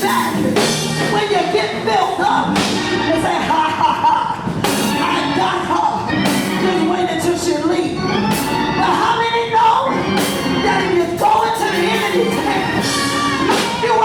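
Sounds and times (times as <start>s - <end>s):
gospel band playing: 0.0s - 14.0s
voices singing: 0.0s - 14.0s.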